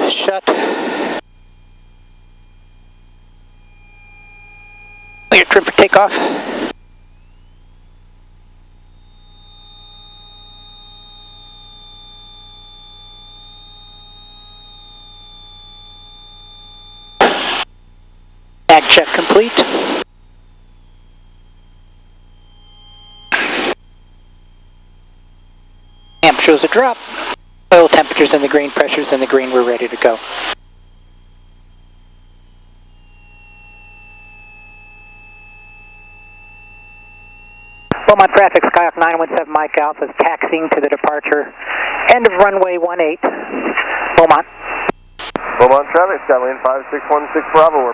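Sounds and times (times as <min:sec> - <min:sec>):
high-pitched electrical whine: 0:00.0 - 0:47.9
aircraft engine idling hum: 0:01.3 - 0:47.6.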